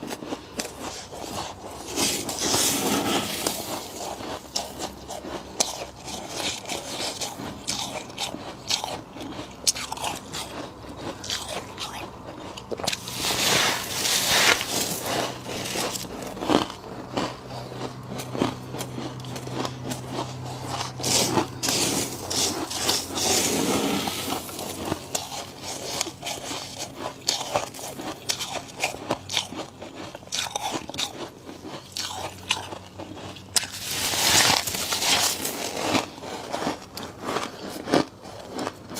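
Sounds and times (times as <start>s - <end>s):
frost being chewed: 0.0s - 38.9s.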